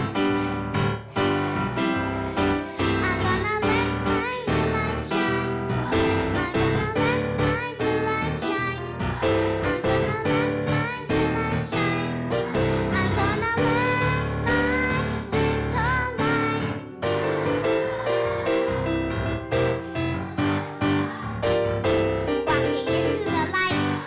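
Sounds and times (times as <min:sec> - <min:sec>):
piano playing: 0:00.0 - 0:24.0
children singing: 0:02.2 - 0:24.0.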